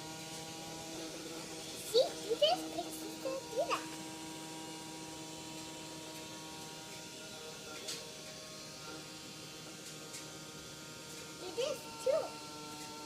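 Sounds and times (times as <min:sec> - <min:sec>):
vacuum cleaner motor humming: 0:00.0 - 0:13.0.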